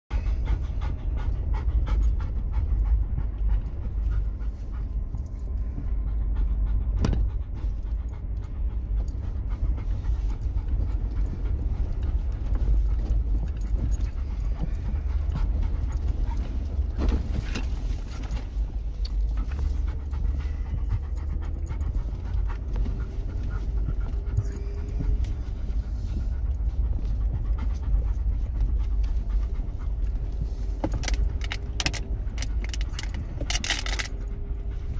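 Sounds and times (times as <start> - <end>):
off-road vehicle rumbling: 0.1 - 34.9
panting breaths: 0.1 - 34.9.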